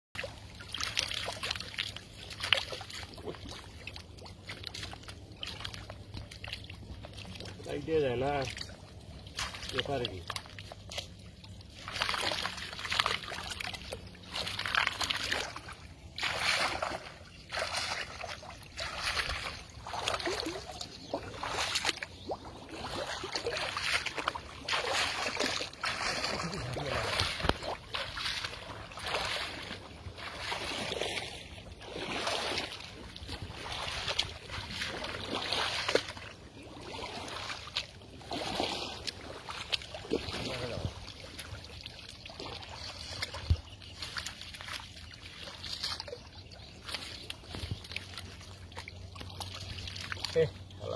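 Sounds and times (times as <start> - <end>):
person wading through water: 0.2 - 50.9.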